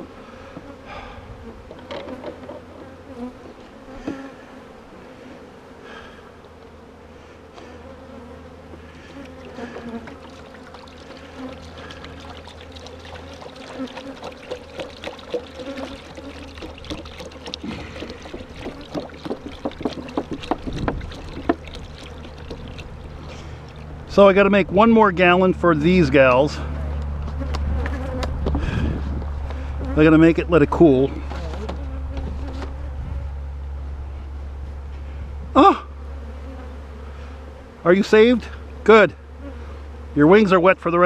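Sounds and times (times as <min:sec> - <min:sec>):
honeybees buzzing: 0:00.0 - 0:41.0.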